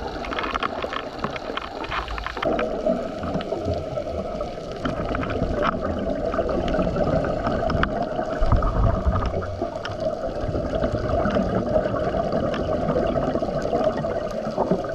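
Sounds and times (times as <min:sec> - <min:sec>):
diver's bubbles: 0:00.0 - 0:14.9
faint clicks: 0:00.0 - 0:14.9
gurgling water: 0:00.0 - 0:14.9
steady underwater rushing: 0:00.0 - 0:14.9.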